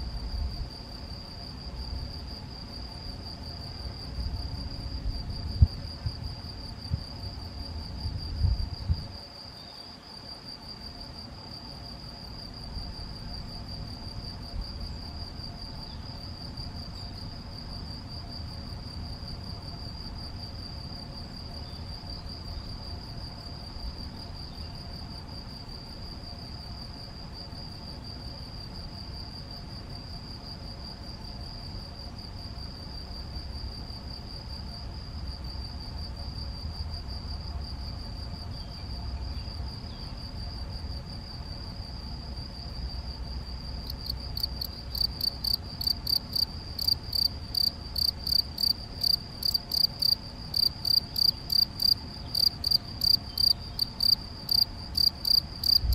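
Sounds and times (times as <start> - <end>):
cricket chirping: 0.0 - 55.9
faint cricket trill: 0.0 - 55.9.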